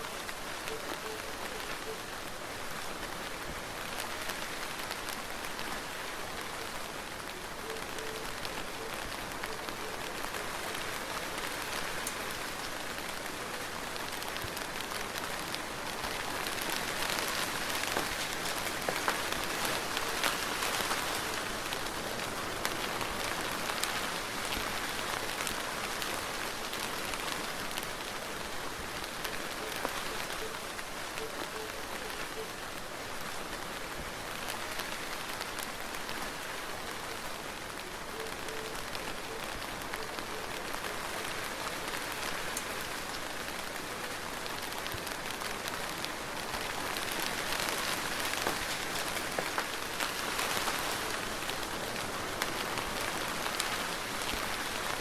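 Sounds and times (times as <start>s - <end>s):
soft rain hiss: 0.0s - 55.0s
raindrop ticks: 2.7s - 32.6s, 34.3s - 55.0s.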